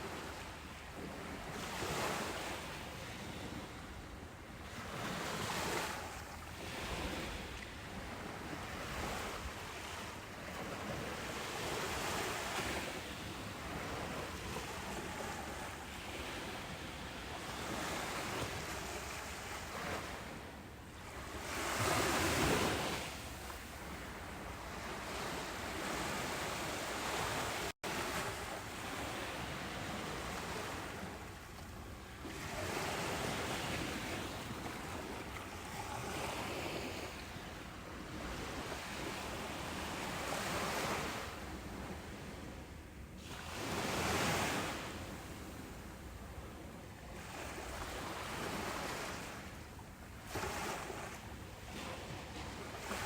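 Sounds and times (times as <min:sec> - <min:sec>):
waves breaking on a beach: 0:00.0 - 0:53.0.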